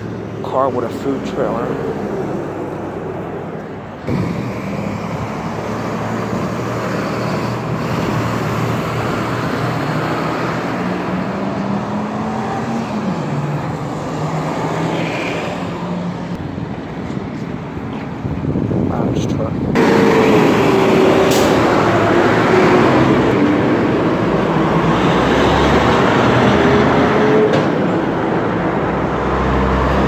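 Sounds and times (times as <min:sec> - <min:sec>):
road noise: 0:00.0 - 0:30.0
vehicle engines passing: 0:00.0 - 0:30.0.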